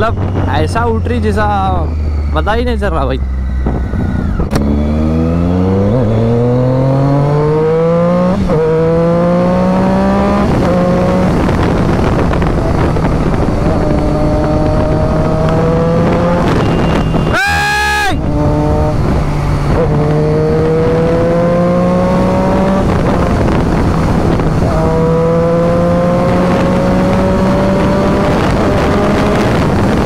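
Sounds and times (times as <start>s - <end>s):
wind rush on microphone: 0.0s - 30.0s
motorcycle engine revving hard: 3.2s - 17.3s, 18.2s - 30.0s.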